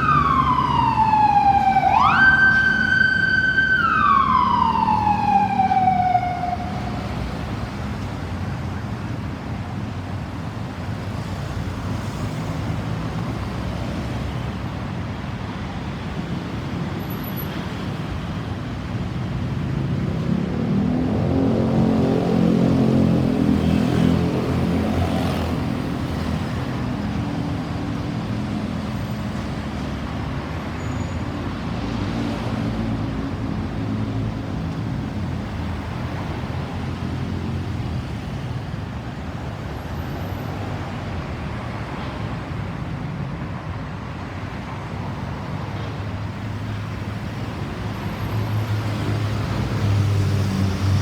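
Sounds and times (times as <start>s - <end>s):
steady traffic rumble: 0.0s - 51.0s.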